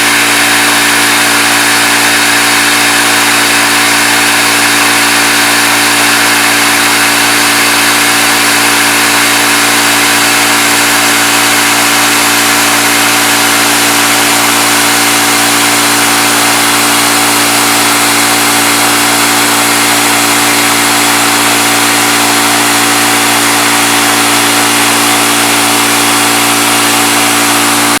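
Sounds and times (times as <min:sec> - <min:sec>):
milling machine motor hum: 0:00.0 - 0:28.0.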